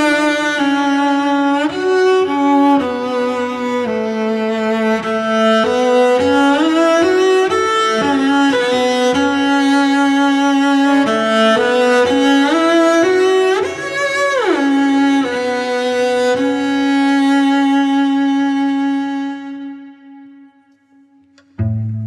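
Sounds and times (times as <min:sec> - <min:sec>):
bowed cello melody: 0:00.0 - 0:22.0.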